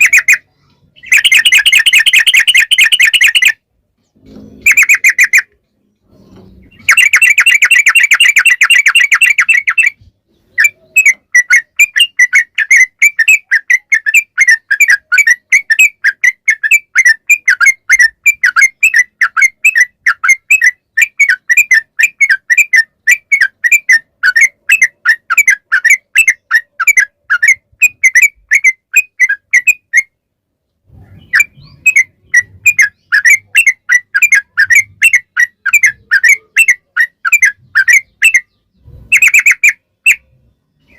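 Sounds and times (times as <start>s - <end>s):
bulbul singing rapid trill: 0.0s - 3.6s, 4.6s - 5.6s, 6.6s - 30.2s, 31.2s - 40.9s.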